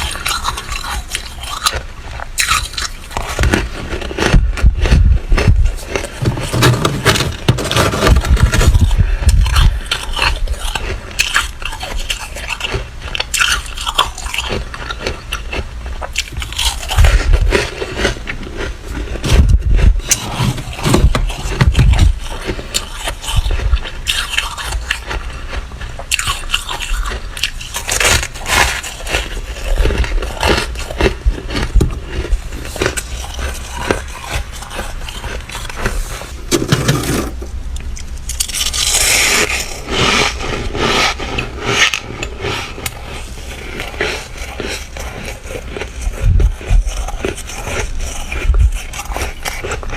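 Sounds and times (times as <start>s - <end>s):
ice crunching and crackling: 0.0s - 49.9s.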